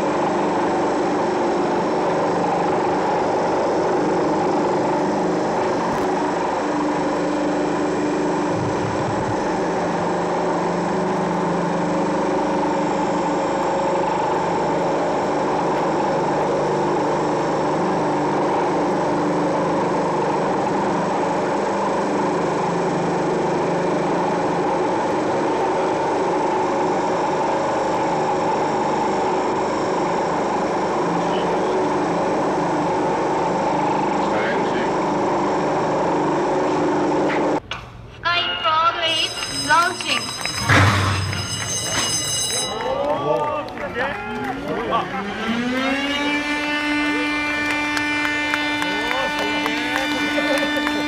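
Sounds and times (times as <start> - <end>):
wind: 0.0 - 38.2, 39.2 - 51.0
ship engine drone: 0.0 - 51.0.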